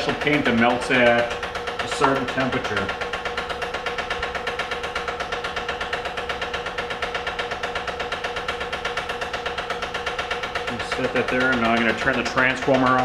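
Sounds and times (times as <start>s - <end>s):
vacuum pump chugging: 0.0s - 13.0s.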